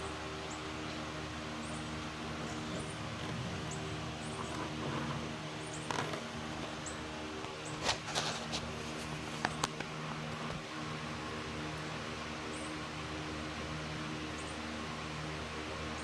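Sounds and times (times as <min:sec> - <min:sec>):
pump humming: 0:00.0 - 0:16.0.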